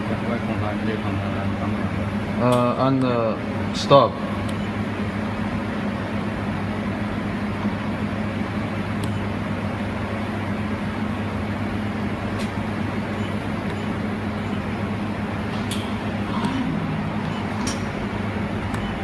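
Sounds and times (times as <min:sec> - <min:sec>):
welding machine hum and fan whirr: 0:00.0 - 0:19.0.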